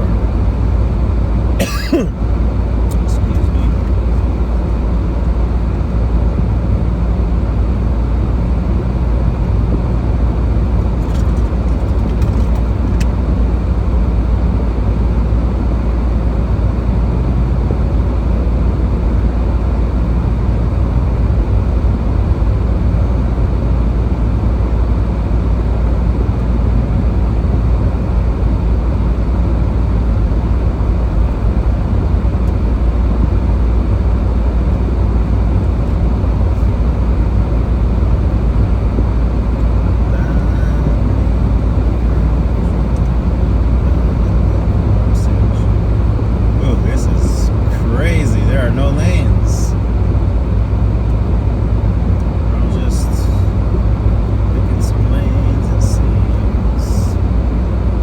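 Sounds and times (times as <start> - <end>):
car driving rumble inside cabin: 0.0 - 58.0.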